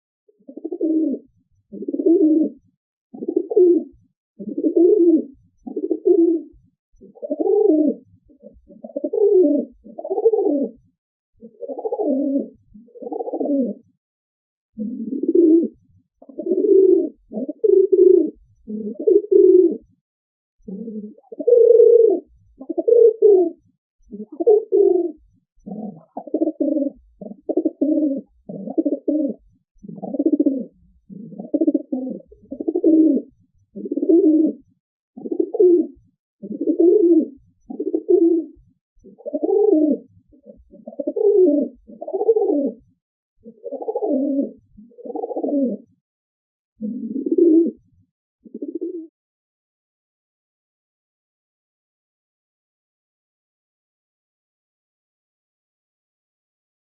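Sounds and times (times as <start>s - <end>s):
dove cooing: 0.4s - 14.0s, 14.8s - 19.9s, 20.6s - 34.6s, 35.2s - 46.0s, 46.8s - 49.1s.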